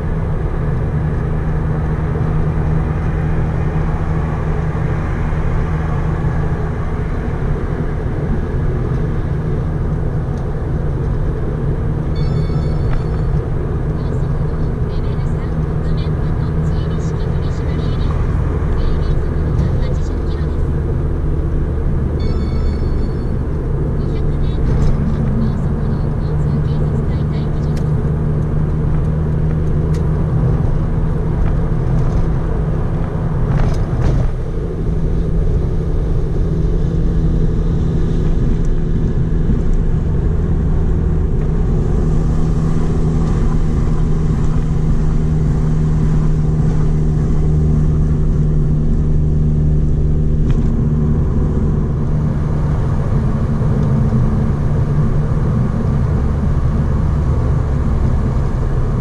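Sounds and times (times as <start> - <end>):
car engine droning: 0.0 - 59.0
tyre and road rumble: 0.0 - 59.0.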